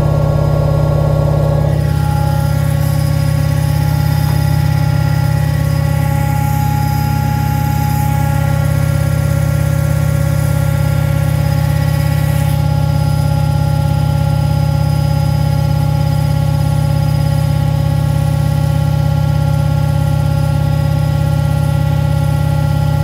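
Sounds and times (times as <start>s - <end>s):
motor whine: 0.0s - 23.0s
washing machine humming: 0.0s - 23.0s.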